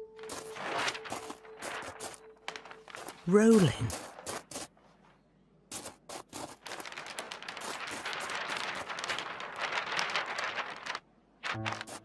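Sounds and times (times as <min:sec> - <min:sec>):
paper crackling and crinkling: 0:00.2 - 0:04.9, 0:05.7 - 0:12.0.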